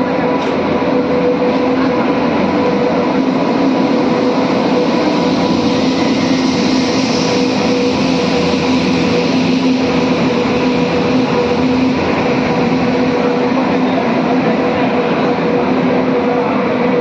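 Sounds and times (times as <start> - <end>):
constant hum: 0.0 - 17.0
train wheels rumbling on track: 0.0 - 17.0.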